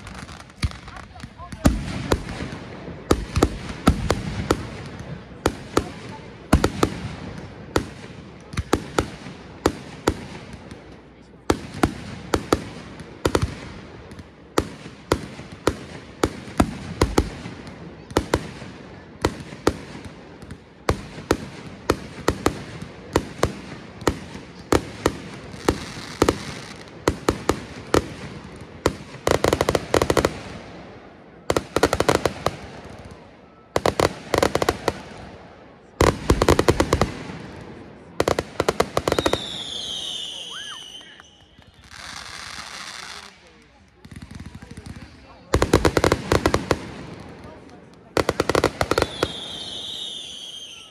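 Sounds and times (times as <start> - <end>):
rapid firework cracks: 0.0 - 10.9, 11.5 - 33.2, 33.8 - 50.9
fireworks bangs: 0.0 - 50.9.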